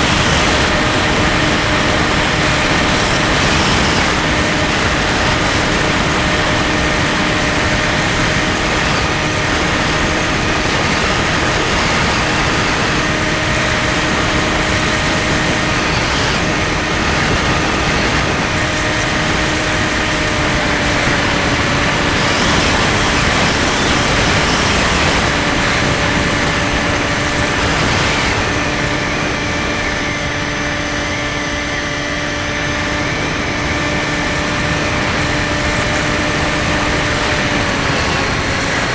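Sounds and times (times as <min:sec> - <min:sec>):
electric motor and propeller running: 0:00.0 - 0:38.9
heavy wind rush: 0:00.0 - 0:38.9.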